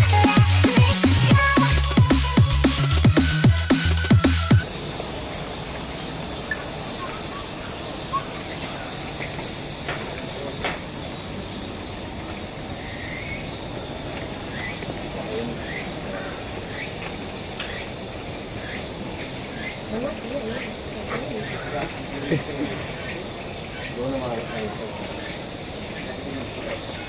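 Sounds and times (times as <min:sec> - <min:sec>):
cicadas droning: 0:00.0 - 0:27.0.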